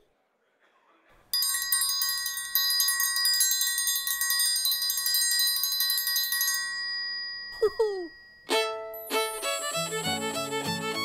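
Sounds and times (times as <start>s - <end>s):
bells jingling: 1.3s - 10.8s
high ringing tones: 1.4s - 10.3s.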